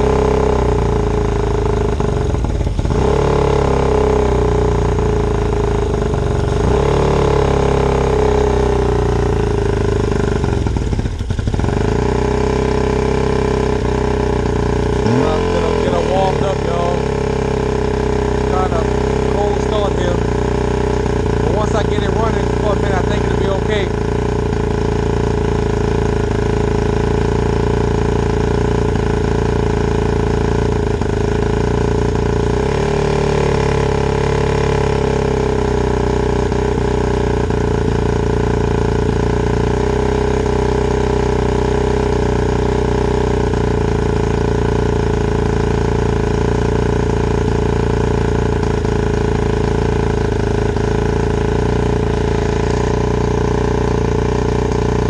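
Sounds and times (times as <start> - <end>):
outboard motor idling: 0.0 - 55.0.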